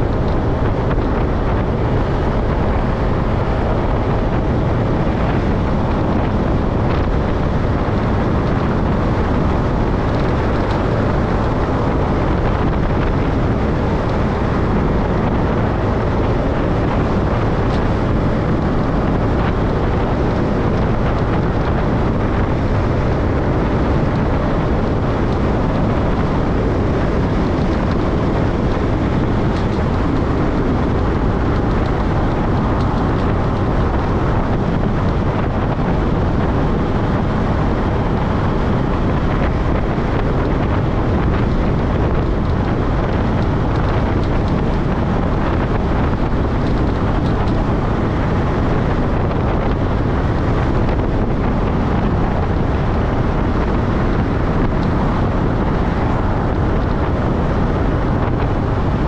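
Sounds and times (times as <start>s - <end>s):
road vehicle droning at speed: 0.0s - 59.0s
wind rush on microphone: 0.0s - 59.0s.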